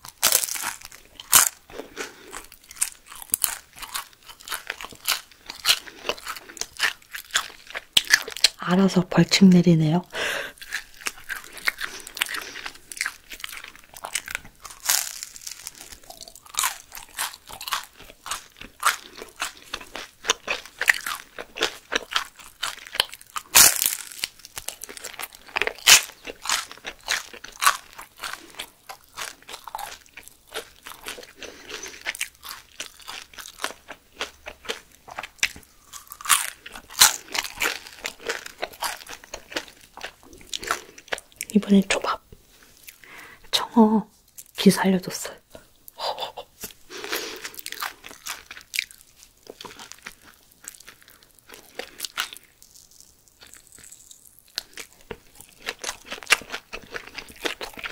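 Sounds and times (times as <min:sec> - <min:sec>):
crunchy food chewing: 0:00.0 - 0:08.6, 0:10.2 - 0:43.3, 0:45.5 - 0:57.9.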